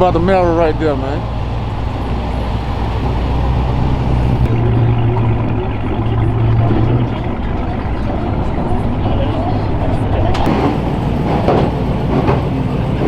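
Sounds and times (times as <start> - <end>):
car engines idling: 0.0 - 13.0.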